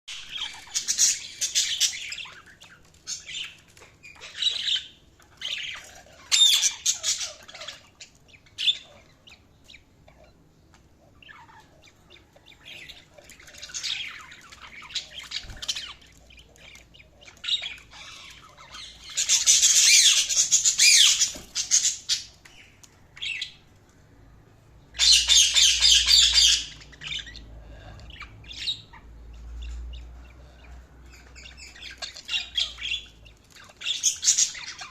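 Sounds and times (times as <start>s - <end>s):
budgerigars chirping and squawking: 0.1s - 23.7s, 24.8s - 34.9s.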